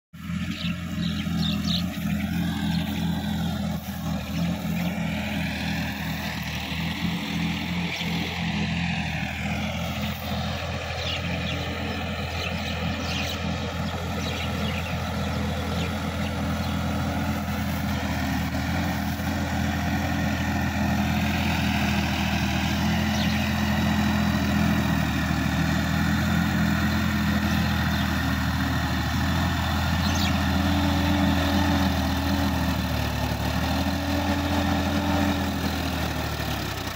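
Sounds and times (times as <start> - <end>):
diesel tractor engine running: 0.1 - 36.9.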